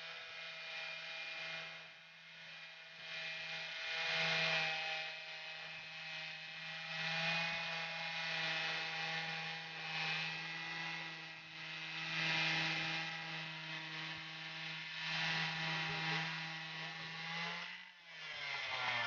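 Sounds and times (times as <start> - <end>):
chainsaw engine running at high speed: 0.0 - 19.0.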